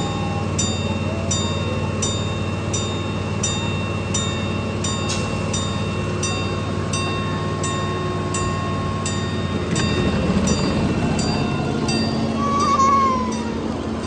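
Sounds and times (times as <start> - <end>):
miniature train droning: 0.0 - 14.0
wheels clicking on rail joints: 0.0 - 14.0.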